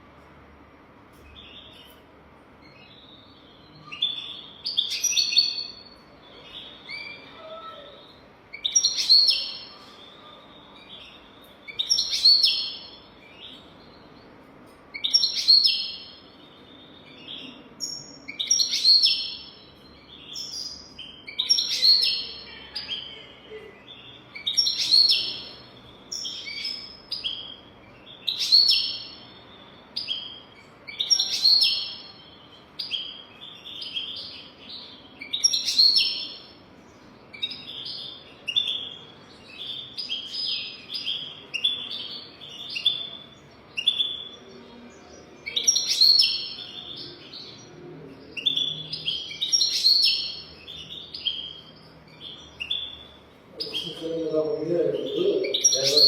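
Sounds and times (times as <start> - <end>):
bird twittering song: 1.1 - 56.0.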